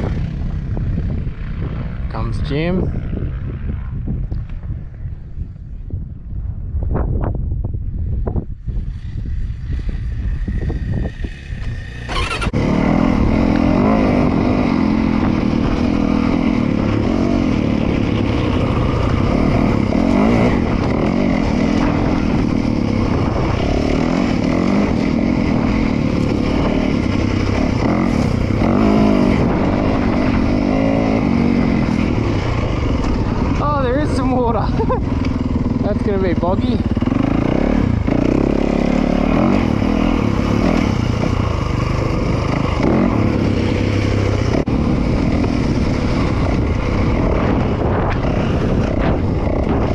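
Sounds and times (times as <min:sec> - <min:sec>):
wind on microphone: 0:00.0 - 0:49.9
dirt bike engine revving: 0:08.9 - 0:49.9.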